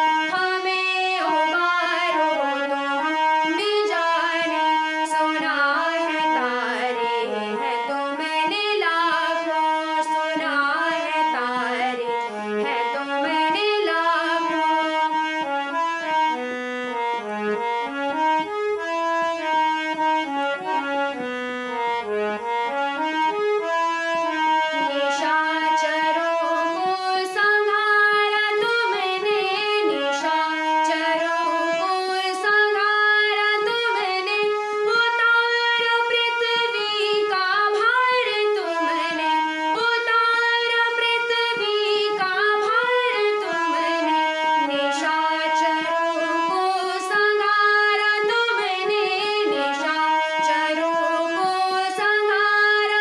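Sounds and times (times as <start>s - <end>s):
woman singing: 0.0s - 15.0s, 24.8s - 53.0s
harmonium chords: 0.0s - 53.0s.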